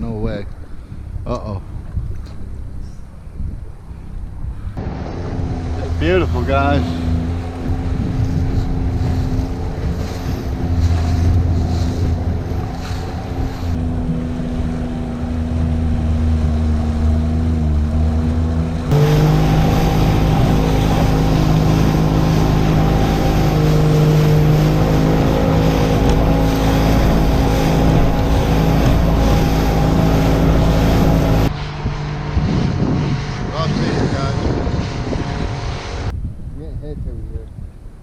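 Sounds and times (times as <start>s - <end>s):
outboard motor running: 0.0s - 36.1s
water noise: 0.0s - 36.5s
wind: 0.0s - 38.0s.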